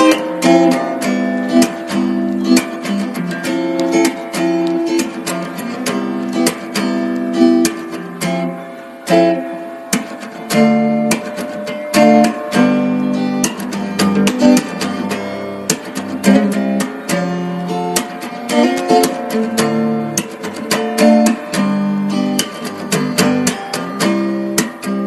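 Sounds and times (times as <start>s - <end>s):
acoustic guitar strumming and plucking: 0.0s - 25.0s.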